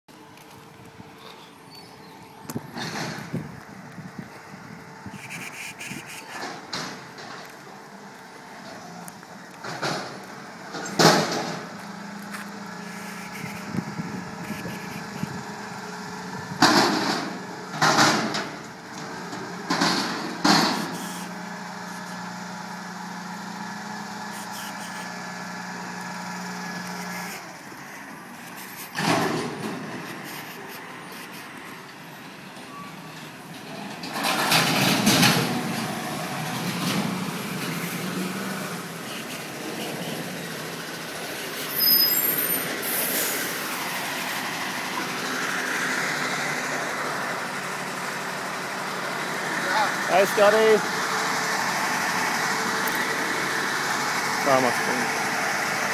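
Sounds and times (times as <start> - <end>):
garbage truck engine hum: 0.1 - 55.9.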